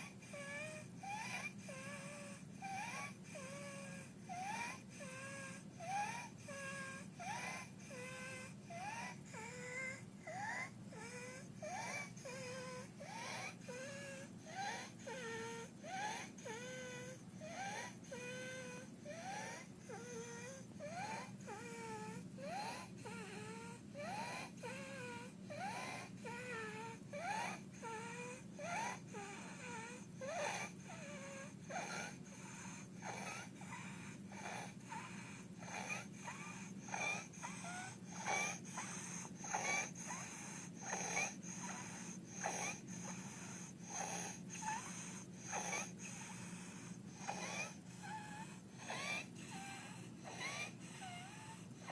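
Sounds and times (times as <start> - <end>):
child breathing with stridor: 0.0 - 51.9.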